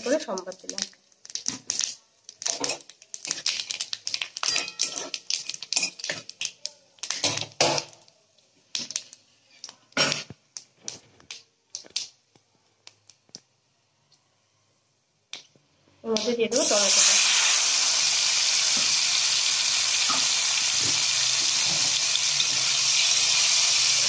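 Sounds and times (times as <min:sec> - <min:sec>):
spices crackling in hot oil: 0:00.0 - 0:13.4, 0:16.1 - 0:24.0.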